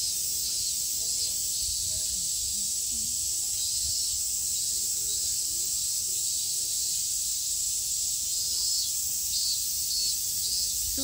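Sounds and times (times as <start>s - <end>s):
cicadas chorus: 0.0s - 11.0s.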